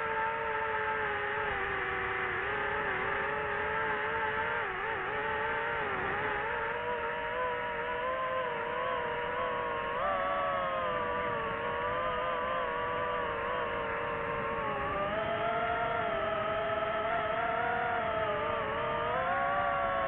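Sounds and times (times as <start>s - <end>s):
drone propellers whining: 1.3s - 20.0s.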